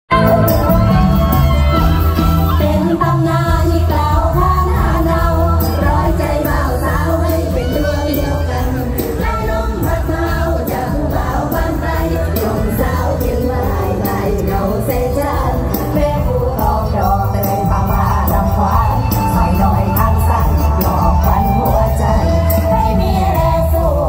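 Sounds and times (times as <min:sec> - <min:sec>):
live band music over pa: 0:00.1 - 0:24.0
person singing: 0:00.1 - 0:24.0.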